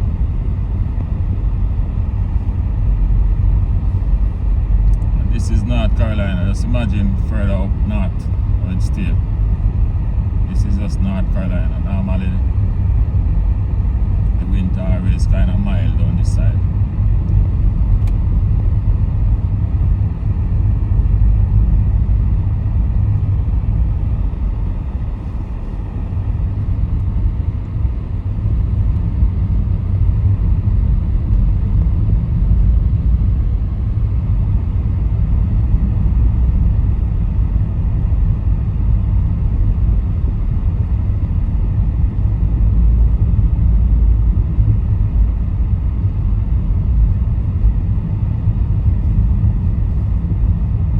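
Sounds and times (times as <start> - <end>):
car engine and tyre noise: 0.0 - 50.9.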